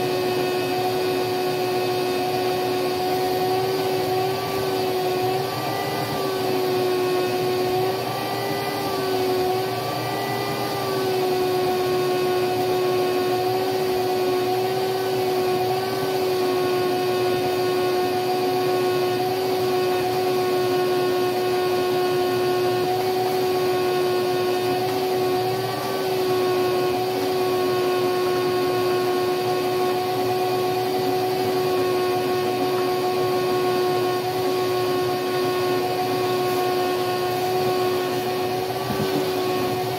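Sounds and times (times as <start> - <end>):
shop vacuum whining: 0.0 - 39.9.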